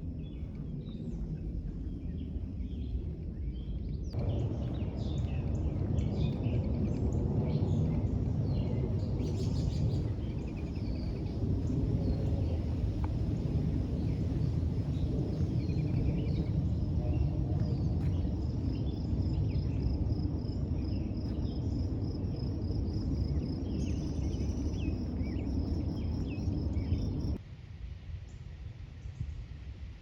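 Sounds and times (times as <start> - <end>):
loud low rumble: 0.0 - 27.4.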